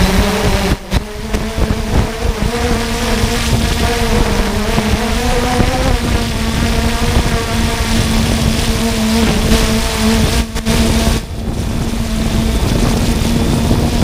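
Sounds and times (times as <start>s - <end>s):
drone propellers buzzing: 0.0s - 14.0s
low wind rumble on microphone: 0.0s - 14.0s.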